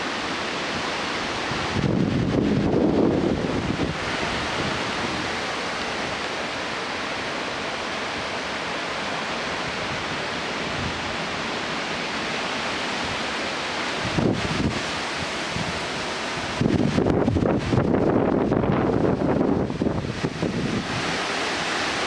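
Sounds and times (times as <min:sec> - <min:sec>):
high wind: 0:00.0 - 0:22.0
rain: 0:00.0 - 0:22.0.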